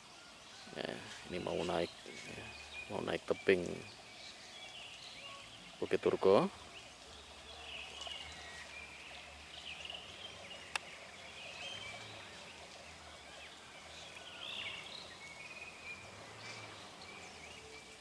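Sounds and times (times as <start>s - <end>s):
birds chirping and warbling: 0.0s - 18.0s
steady background hiss: 0.0s - 18.0s.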